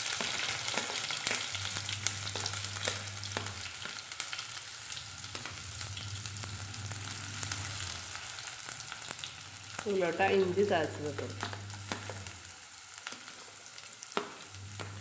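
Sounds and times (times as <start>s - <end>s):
shallots sizzling in oil: 0.0s - 15.0s.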